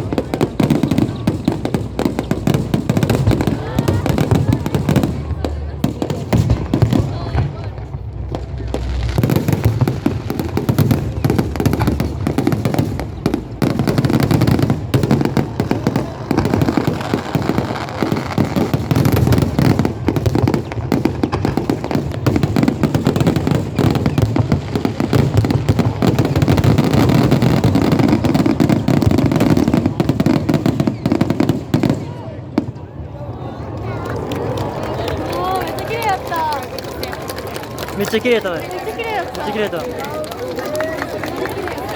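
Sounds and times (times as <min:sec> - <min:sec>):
fireworks exploding: 0:00.0 - 0:41.9.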